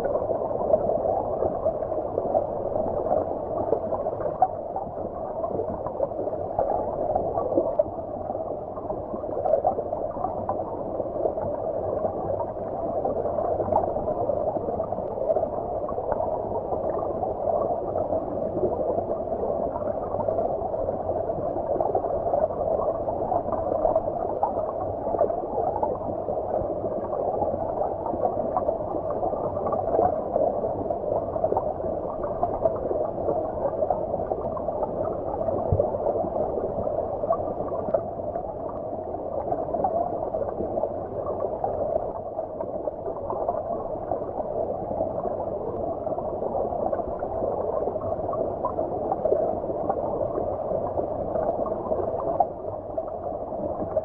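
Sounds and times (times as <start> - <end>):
muffled underwater stream gurgling: 0.0 - 54.0.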